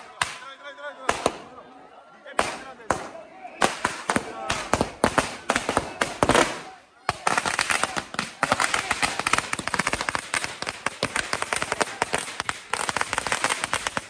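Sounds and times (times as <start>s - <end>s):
firecrackers crackling: 0.0s - 1.5s, 2.3s - 14.0s.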